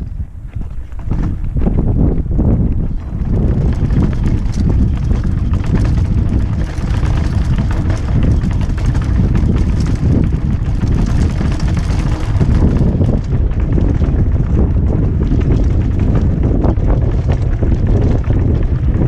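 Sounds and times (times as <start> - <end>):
wind rumble on microphone: 0.0 - 19.0
mountain bike rattling over rocks: 0.1 - 19.0.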